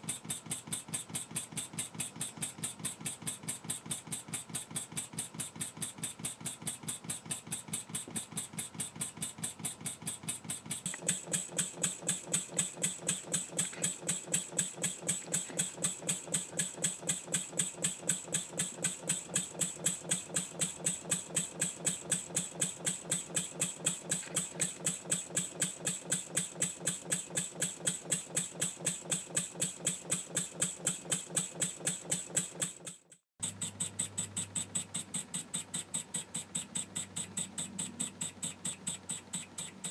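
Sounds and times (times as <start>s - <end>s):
model steam engine puffing: 0.0s - 39.9s.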